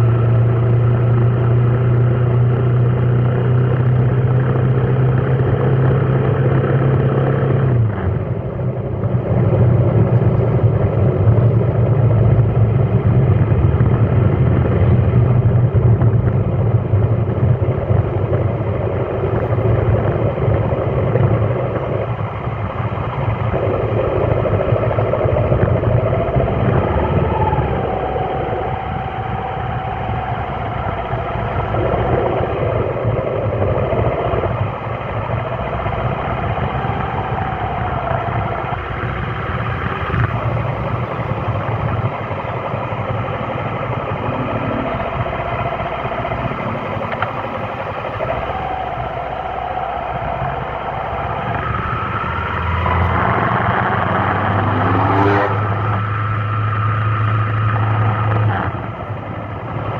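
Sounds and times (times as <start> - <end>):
traffic noise: 0.0 - 59.9
vehicle engine humming: 0.0 - 59.9.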